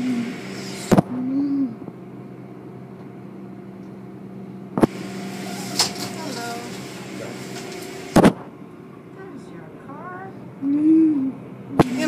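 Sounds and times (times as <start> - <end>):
car wash machinery humming: 0.0 - 12.0.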